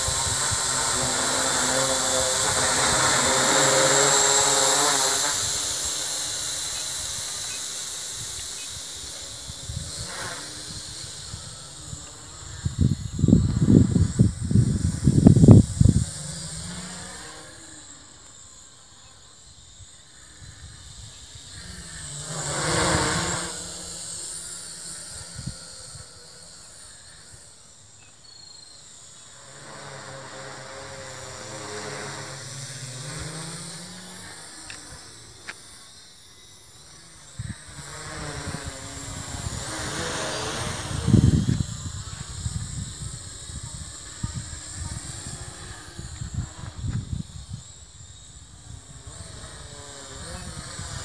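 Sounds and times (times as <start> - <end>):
drone propeller buzz: 0.0 - 51.0.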